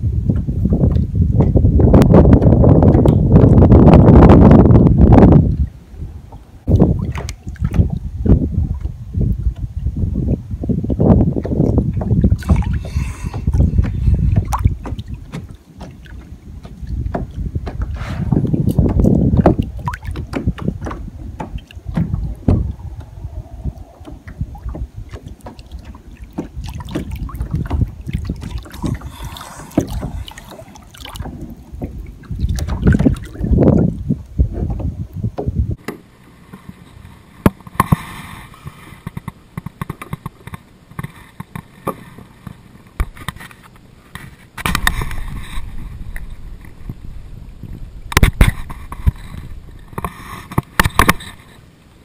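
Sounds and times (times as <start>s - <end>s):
wind rumble on microphone: 0.0s - 35.8s, 36.5s - 52.0s
water lapping against kayak hull: 0.3s - 52.0s.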